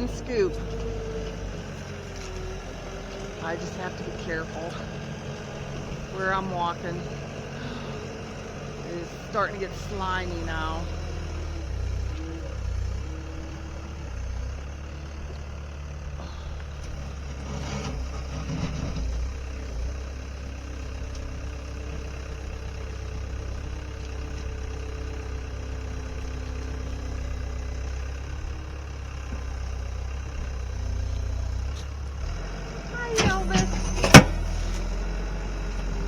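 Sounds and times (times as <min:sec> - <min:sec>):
faint engine knocks: 0:00.0 - 0:32.4
engine running at low speed: 0:00.0 - 0:36.0.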